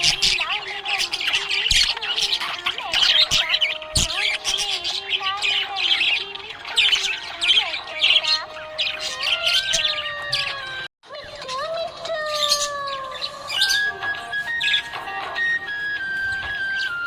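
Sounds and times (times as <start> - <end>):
budgerigar chirping and warbling: 0.0 - 17.0
whistled bird notes: 0.0 - 17.0.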